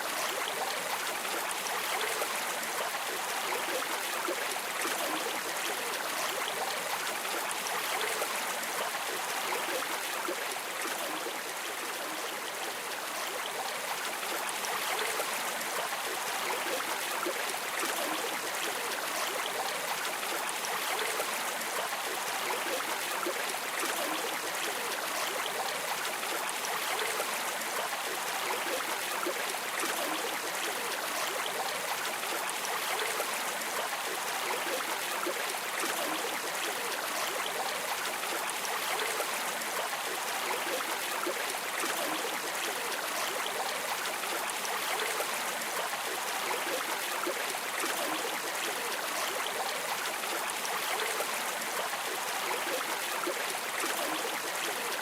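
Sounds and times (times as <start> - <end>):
rushing stream water: 0.0 - 55.0.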